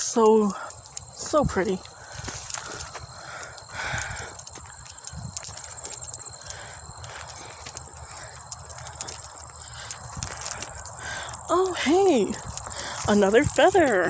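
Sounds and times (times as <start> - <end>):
insect trill: 0.0 - 14.0
soft clicks and rustles: 0.1 - 14.0.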